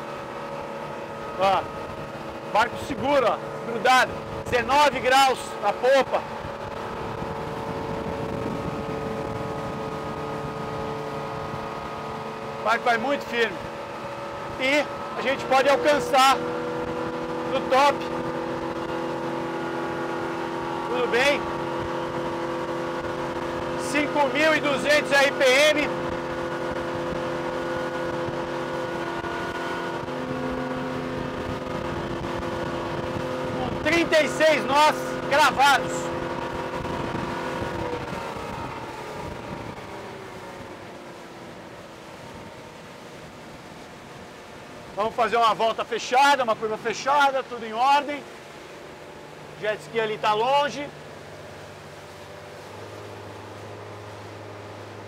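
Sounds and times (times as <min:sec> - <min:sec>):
hull rushing on water: 0:00.0 - 0:55.0
motorboat engine running: 0:00.0 - 0:55.0.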